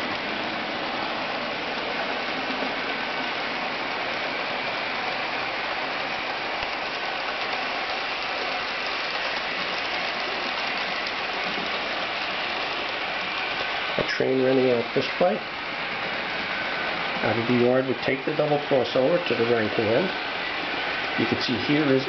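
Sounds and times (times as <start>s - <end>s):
wheels rolling on rails: 0.0s - 22.0s.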